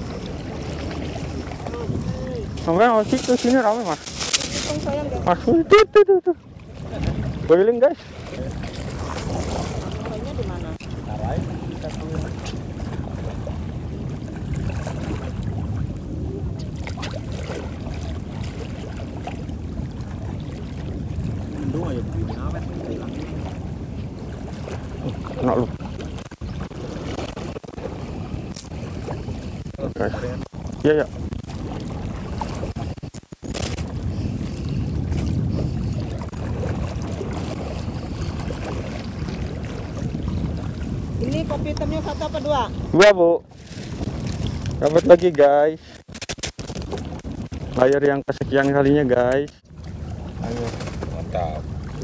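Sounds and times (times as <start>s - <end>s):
sea water lapping and splashing: 0.0s - 52.0s
wind on microphone: 0.0s - 52.0s.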